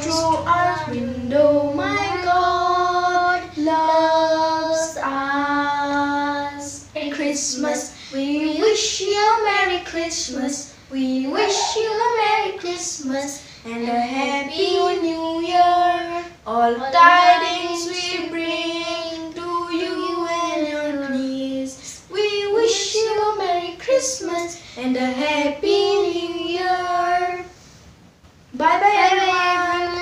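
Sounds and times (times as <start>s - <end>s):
girls singing unaccompanied: 0.0s - 27.5s, 28.5s - 30.0s.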